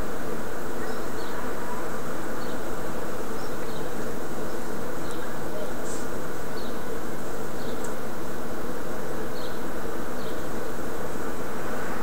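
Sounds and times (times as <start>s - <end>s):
steady buzzing hum: 0.0s - 12.0s.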